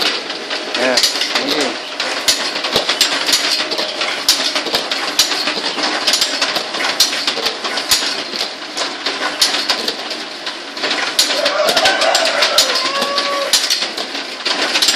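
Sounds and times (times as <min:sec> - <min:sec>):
machine running: 0:00.0 - 0:14.9
sharp clacks: 0:00.0 - 0:14.9.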